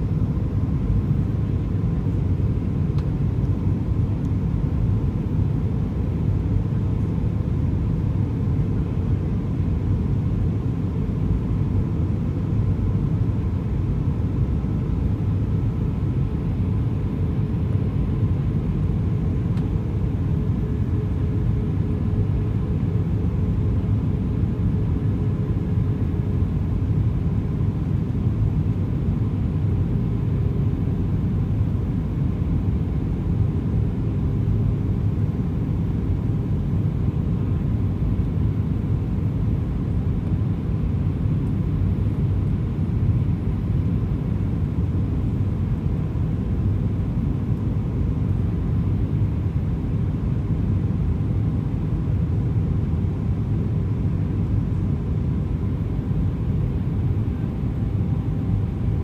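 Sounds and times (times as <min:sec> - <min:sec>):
engine and airflow rumble: 0:00.0 - 0:59.0
faint steady hum: 0:00.0 - 0:59.0.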